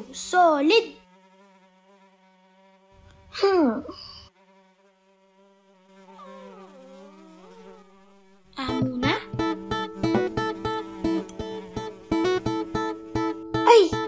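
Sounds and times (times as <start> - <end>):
cartoon fly buzzing: 0.0 - 14.0.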